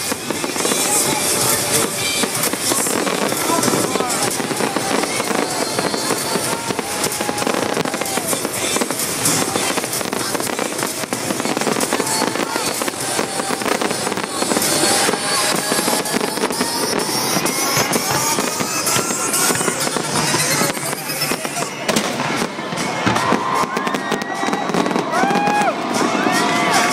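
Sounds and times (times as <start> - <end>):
crowd shouting: 0.0 - 26.9
fireworks crackling and popping: 0.0 - 26.9.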